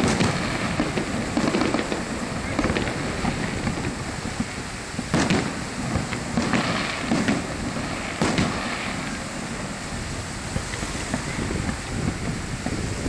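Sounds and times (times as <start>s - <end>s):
distant firework booms: 0.0s - 13.0s.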